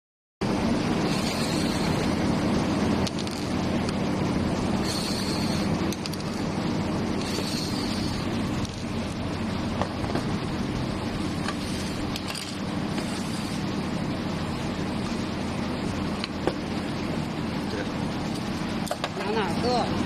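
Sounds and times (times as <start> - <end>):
low mechanical hum: 0.4 - 20.0.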